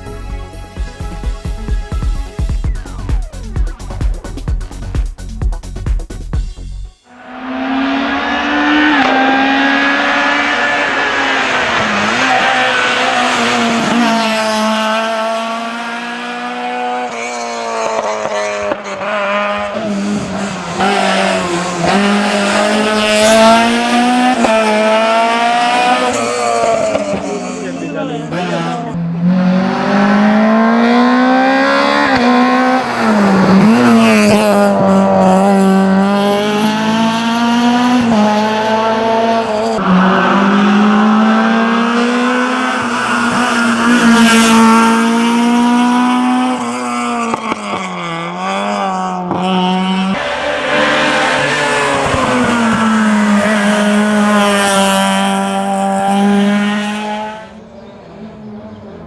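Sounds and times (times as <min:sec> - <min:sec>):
race car engine at full throttle: 0:07.0 - 0:59.0.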